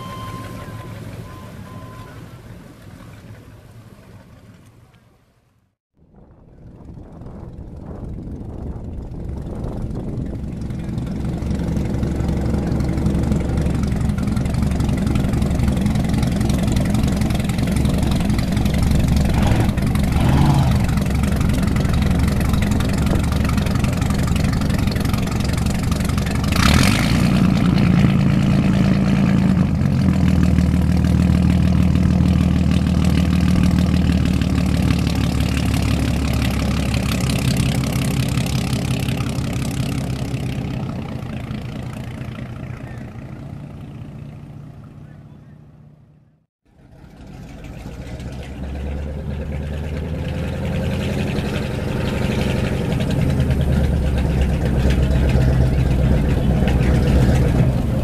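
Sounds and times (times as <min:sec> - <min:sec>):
boat engine running: 0:00.0 - 0:04.8, 0:06.1 - 0:58.0.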